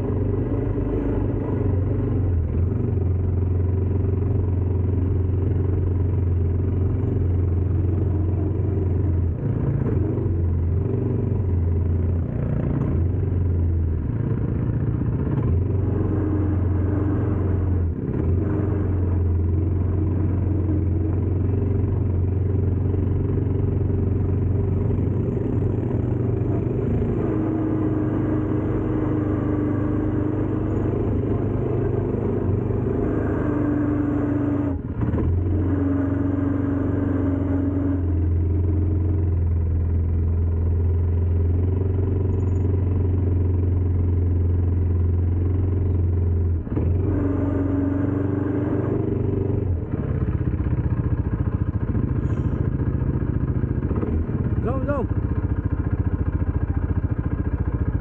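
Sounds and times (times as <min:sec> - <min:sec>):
atv engine droning: 0:00.0 - 0:58.0.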